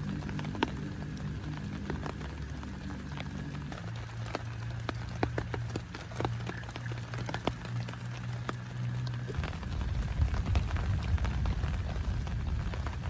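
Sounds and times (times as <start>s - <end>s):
raindrops tapping on surface: 0.0s - 13.0s
steady low rumble: 0.0s - 13.0s.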